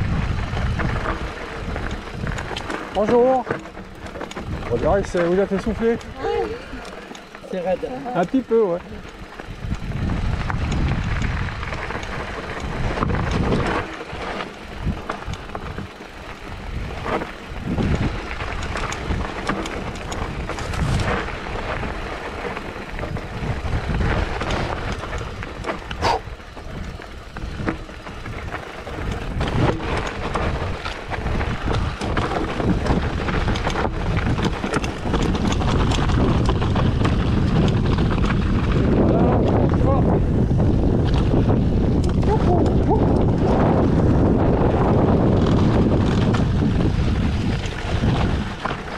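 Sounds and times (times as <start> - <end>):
bike rattling: 0.0 - 48.9
bike tyres crunching over stones: 0.0 - 48.9
wind rush on microphone: 0.0 - 48.9.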